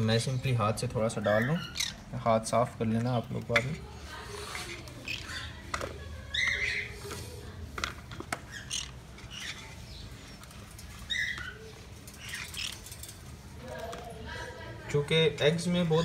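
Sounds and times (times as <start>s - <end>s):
parrots squawking and chirping: 0.0s - 2.7s, 3.3s - 13.4s, 15.5s - 16.0s.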